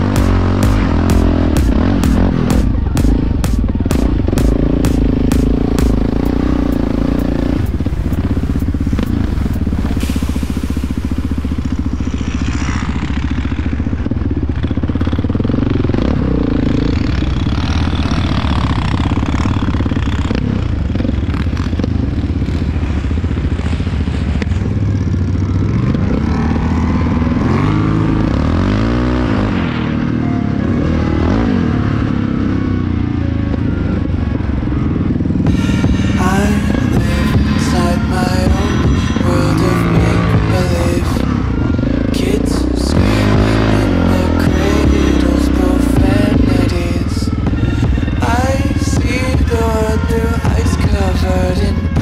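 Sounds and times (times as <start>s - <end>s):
quad bike engine revving: 0.0s - 52.0s.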